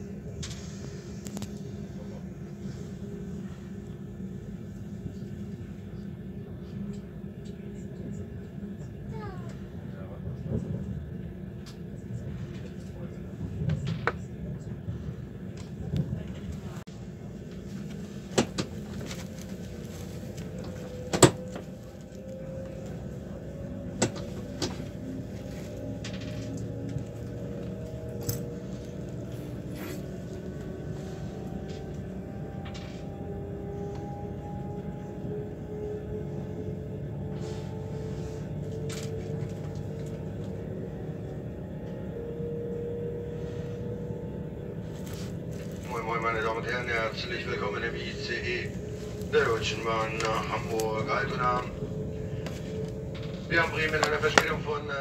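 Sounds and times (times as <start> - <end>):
train rumble from inside: 0.0 - 55.0.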